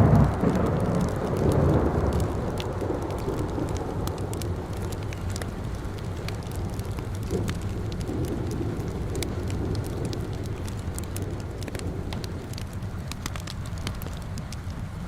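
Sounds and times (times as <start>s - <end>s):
crackling wood fire: 0.0s - 15.0s
steady rain: 0.0s - 15.0s.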